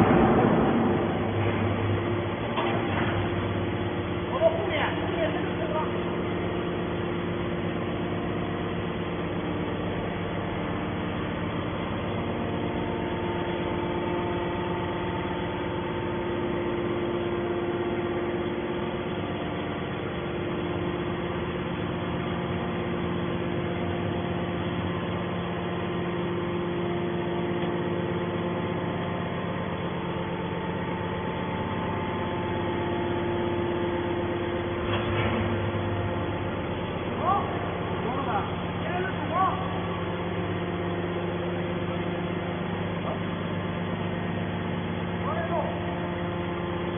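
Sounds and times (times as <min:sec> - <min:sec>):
hydraulic power unit humming: 0:00.0 - 0:46.9.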